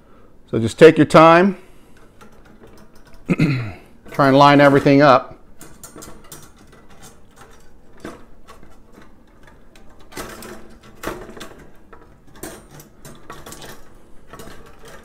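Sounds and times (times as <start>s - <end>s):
wire dish rack clinking: 1.9s - 3.4s, 4.0s - 15.0s.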